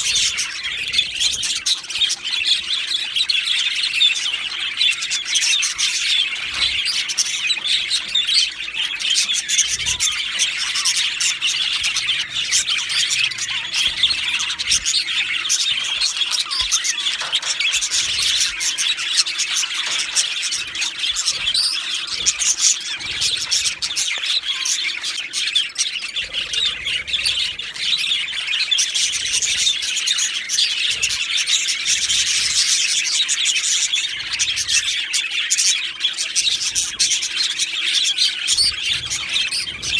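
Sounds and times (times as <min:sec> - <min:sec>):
bird squawks: 0:00.0 - 0:39.9
budgerigars chirping and chattering: 0:00.0 - 0:39.9.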